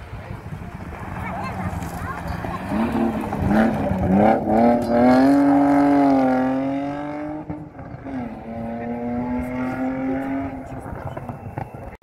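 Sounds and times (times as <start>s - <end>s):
rally car engine revving: 0.4s - 11.9s.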